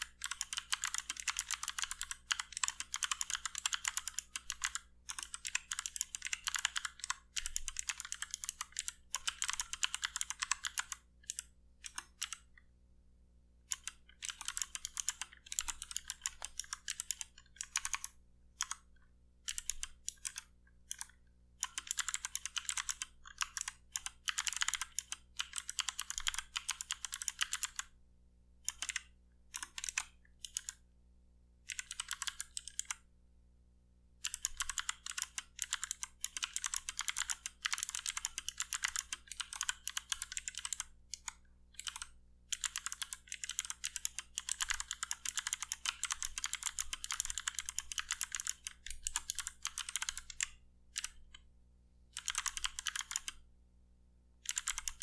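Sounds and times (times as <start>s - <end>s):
fast typing on clicky keyboard: 0.0s - 12.5s, 13.7s - 27.9s, 28.7s - 30.8s, 31.7s - 33.0s, 34.2s - 51.4s, 52.2s - 53.4s, 54.4s - 55.0s.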